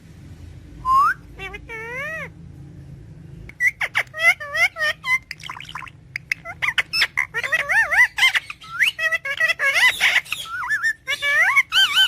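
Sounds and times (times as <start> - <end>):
parrot chattering: 0.9 - 2.3, 3.5 - 12.0.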